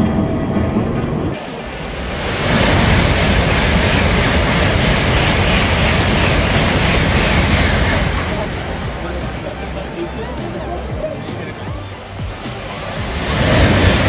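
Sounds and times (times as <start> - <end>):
train passing at high speed: 0.0 - 14.0.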